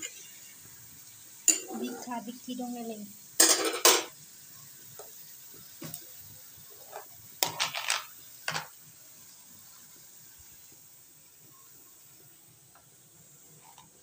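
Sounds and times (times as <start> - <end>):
faint frying sizzle: 0.0 - 14.0.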